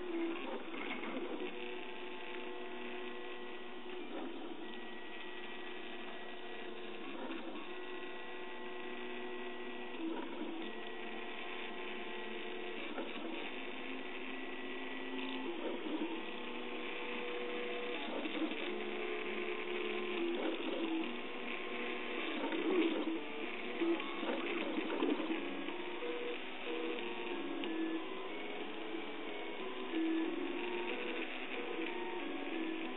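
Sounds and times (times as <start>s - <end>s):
stepper motors singing tones: 0.0s - 32.9s.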